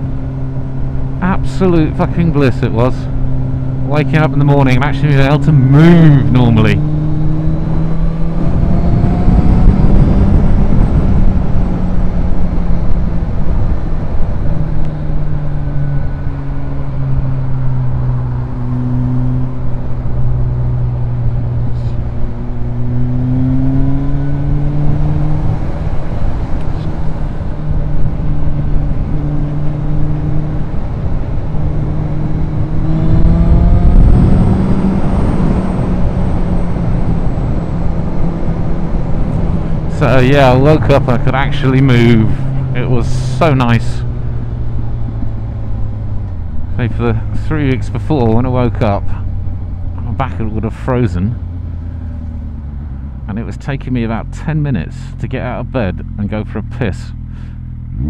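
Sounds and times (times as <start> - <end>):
motorcycle engine cruising: 0.0 - 58.0
wind rumble: 6.9 - 54.3.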